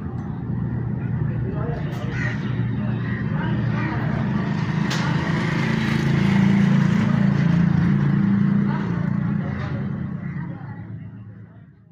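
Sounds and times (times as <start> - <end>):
faint voices: 0.0 - 11.9.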